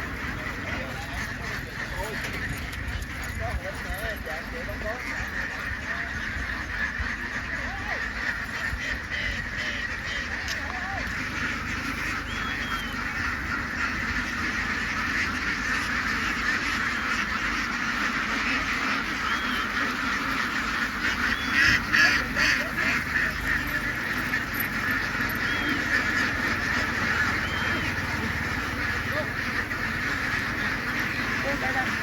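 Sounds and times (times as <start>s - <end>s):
flock of ducks quacking: 0.0s - 32.0s.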